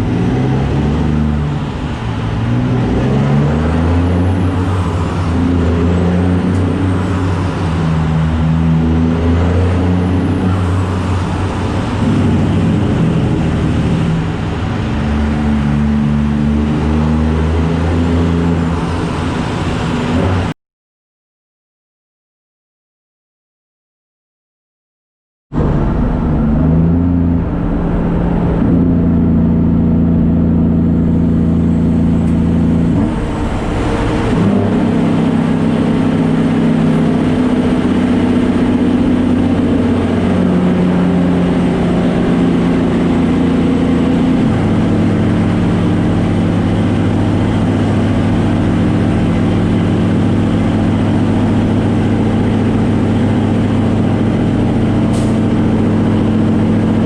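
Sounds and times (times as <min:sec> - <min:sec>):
truck diesel engine running: 0:00.0 - 0:16.8, 0:25.6 - 0:57.0.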